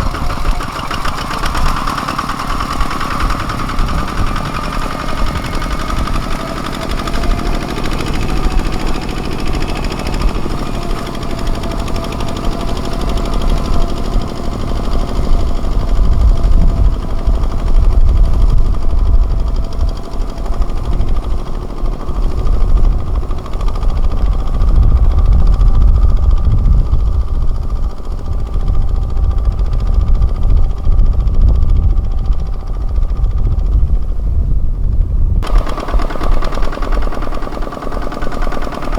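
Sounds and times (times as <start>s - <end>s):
steady whine: 0.0s - 34.3s, 34.9s - 38.9s
tractor diesel engine chugging: 0.0s - 38.9s.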